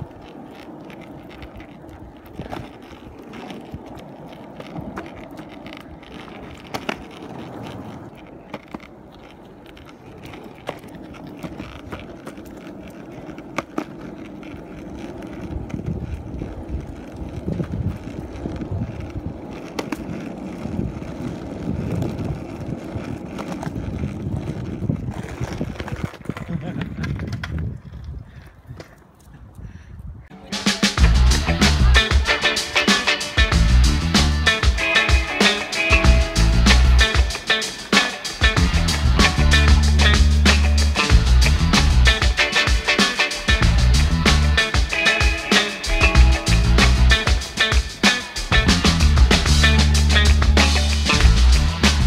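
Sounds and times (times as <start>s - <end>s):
sharp clicks of wheels: 0.0s - 30.1s, 30.9s - 52.0s
longboard wheels rumbling on concrete: 0.0s - 52.0s.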